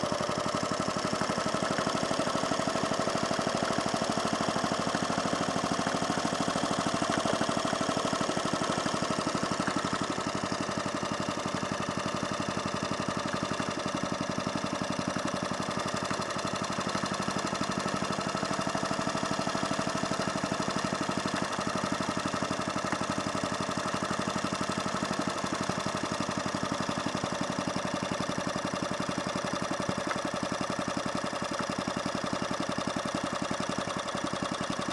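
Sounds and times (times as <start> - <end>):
mower petrol engine running: 0.0 - 34.9.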